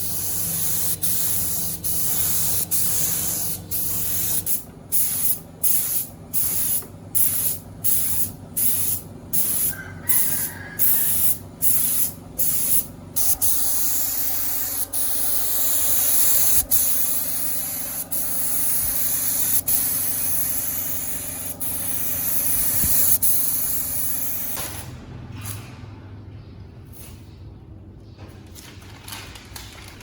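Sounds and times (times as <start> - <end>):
air spray gun hissing: 0.0 - 24.9.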